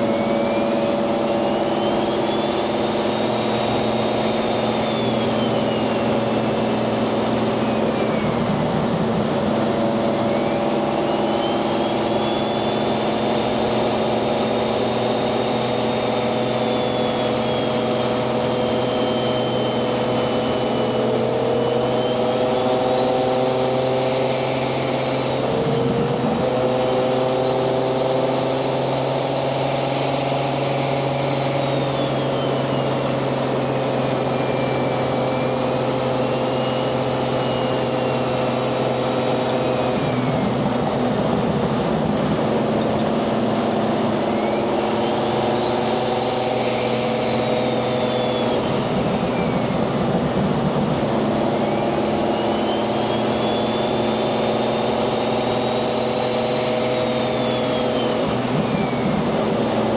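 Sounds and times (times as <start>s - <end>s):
turbo whistle: 0.0s - 41.9s, 42.5s - 50.2s, 50.8s - 59.9s
car engine cruising: 0.0s - 59.9s.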